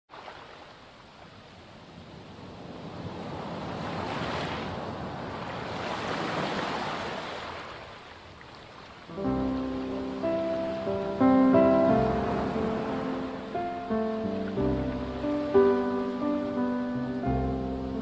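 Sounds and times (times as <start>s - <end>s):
sea waves washing onto beach: 0.1s - 18.0s.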